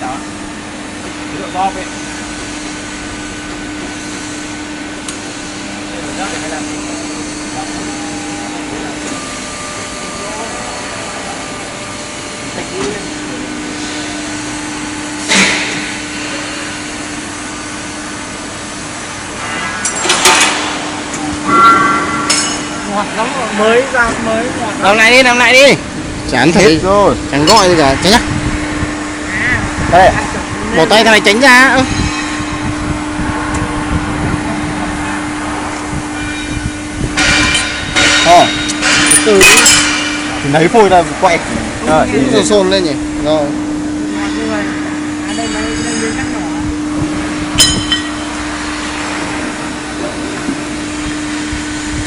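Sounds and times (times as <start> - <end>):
hydraulic machine humming: 0.0 - 52.0.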